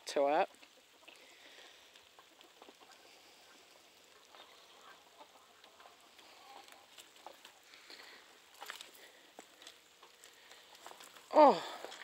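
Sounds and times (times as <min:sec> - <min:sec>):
distant chickens clucking: 0:00.3 - 0:12.0.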